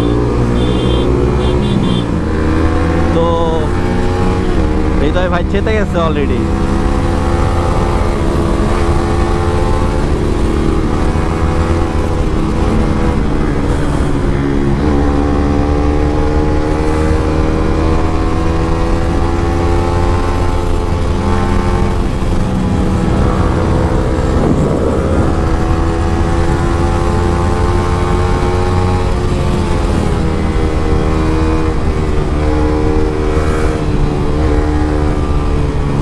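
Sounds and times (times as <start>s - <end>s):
motorcycle engine running: 0.0s - 36.0s
wind rumble on microphone: 6.4s - 36.0s.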